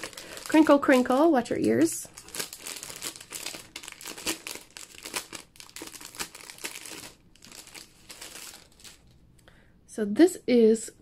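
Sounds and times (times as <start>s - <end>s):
plastic sleeve crinkling: 0.0s - 9.3s.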